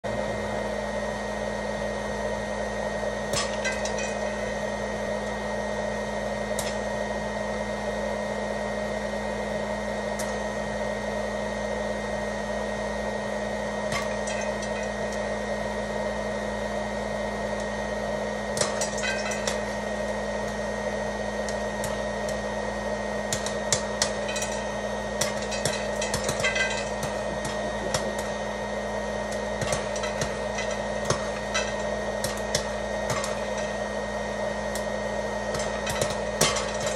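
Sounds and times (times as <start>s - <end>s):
popcorn maker fan hum: 0.0s - 36.9s.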